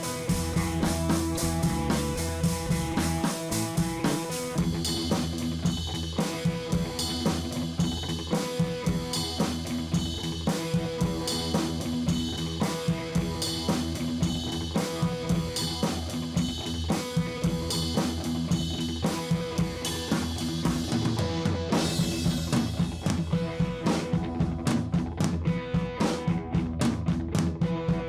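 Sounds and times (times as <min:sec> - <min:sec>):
drum kit steady beat: 0:00.0 - 0:28.0
guitar: 0:00.0 - 0:28.0.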